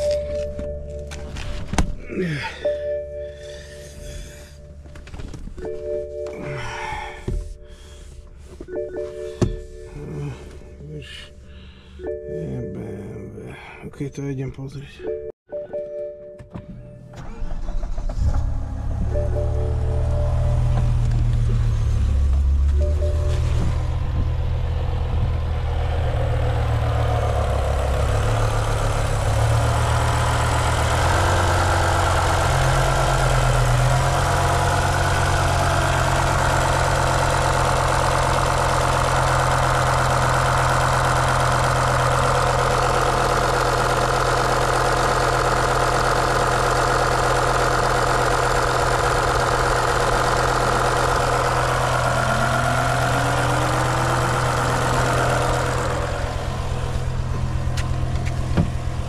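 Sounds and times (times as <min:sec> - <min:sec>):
car engine idling with misfire: 0:00.0 - 0:12.1, 0:17.2 - 0:59.0.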